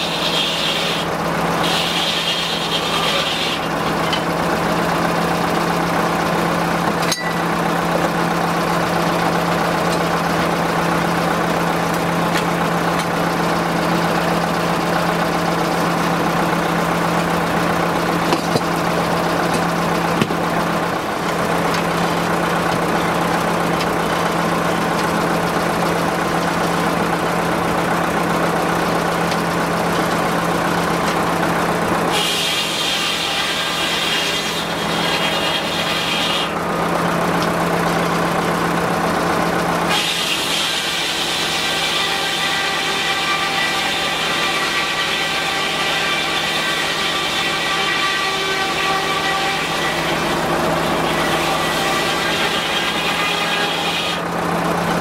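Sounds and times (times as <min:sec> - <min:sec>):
saw blade whining in wood: 0:00.0 - 0:55.0
sawmill engine and blade humming: 0:00.0 - 0:55.0.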